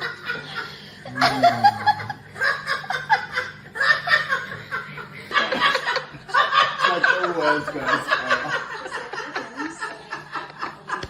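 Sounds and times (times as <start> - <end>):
people laughing hard: 0.0 - 11.0.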